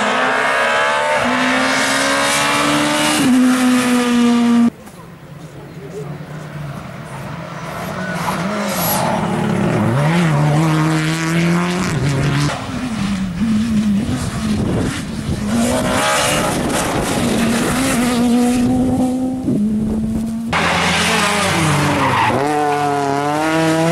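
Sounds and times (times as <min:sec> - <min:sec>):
rally car engines at full throttle: 0:00.0 - 0:23.9.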